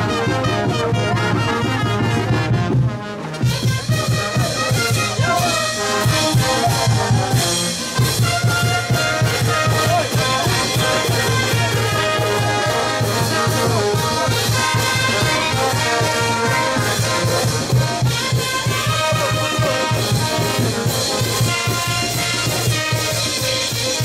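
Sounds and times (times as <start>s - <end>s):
brass band playing dance tune: 0.0s - 24.0s
steady drumbeat: 0.0s - 24.0s.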